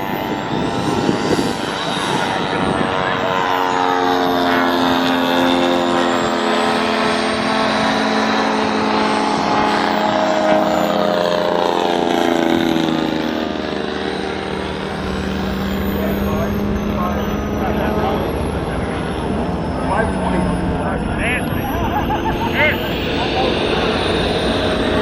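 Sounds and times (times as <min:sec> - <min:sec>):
model plane engine in flight: 0:00.0 - 0:25.0.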